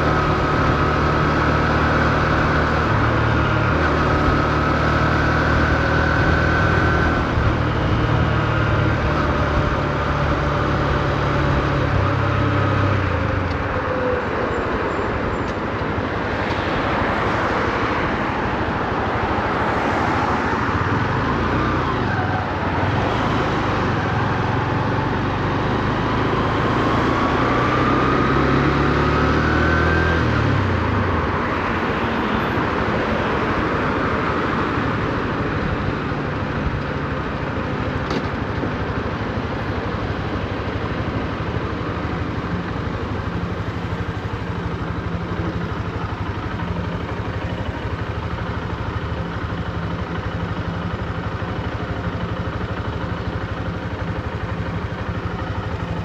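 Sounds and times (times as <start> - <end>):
motorcycle engine under way: 0.0 - 18.1, 18.7 - 32.0, 32.6 - 56.0
wind and road rush: 0.0 - 56.0.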